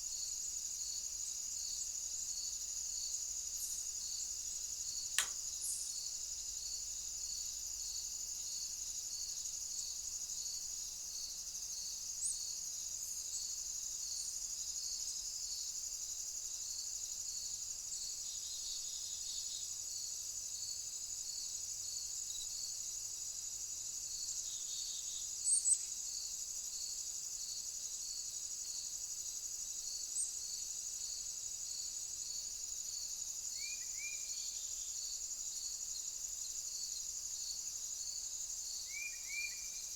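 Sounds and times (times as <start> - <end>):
insect chirping rhythmically: 0.0 - 39.9.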